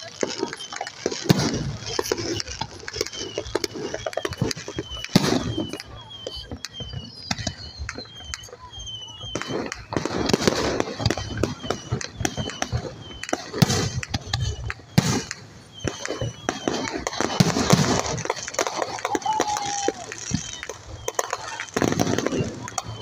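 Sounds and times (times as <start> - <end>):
fireworks bursting with bangs: 0.0 - 23.0.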